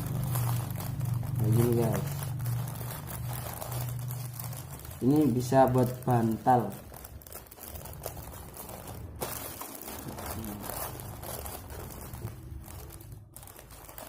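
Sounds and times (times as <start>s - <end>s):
low steady hum: 0.0s - 14.0s
plastic packet rustling and crinkling: 0.0s - 14.0s.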